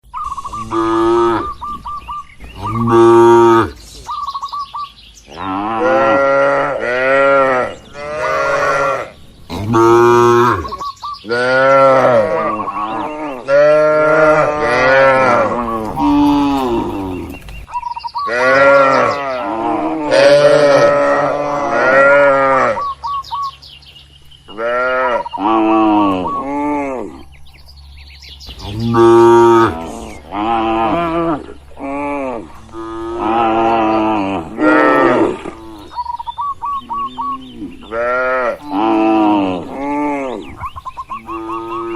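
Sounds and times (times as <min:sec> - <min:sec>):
cattle mooing: 0:00.5 - 0:01.6, 0:02.6 - 0:03.8, 0:05.3 - 0:17.4, 0:18.3 - 0:23.0, 0:24.5 - 0:27.3, 0:28.6 - 0:36.0, 0:36.8 - 0:40.6, 0:41.2 - 0:41.9.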